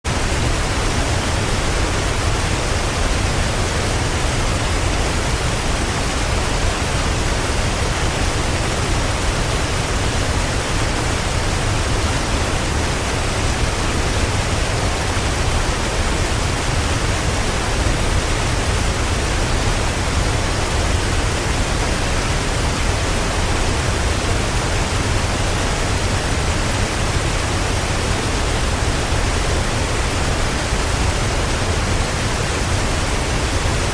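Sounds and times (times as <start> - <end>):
mountain stream rushing over rocks: 0.1 - 33.9.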